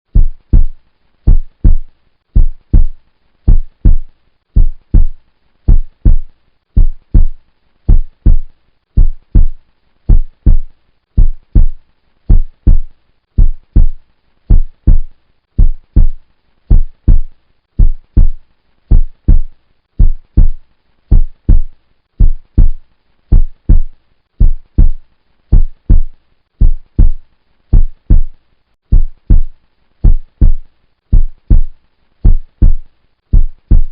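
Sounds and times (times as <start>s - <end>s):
heartbeat thumps: 0.1s - 33.9s.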